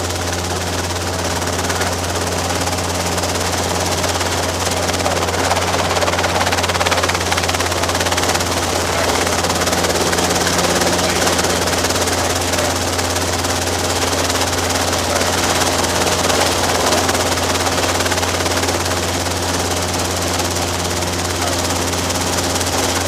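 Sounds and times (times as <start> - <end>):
helicopter engine and rotors: 0.0 - 23.0.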